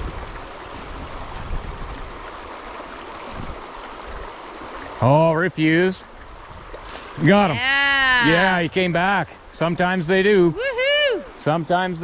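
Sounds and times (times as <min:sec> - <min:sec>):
river water flowing over gravel: 0:00.0 - 0:12.0.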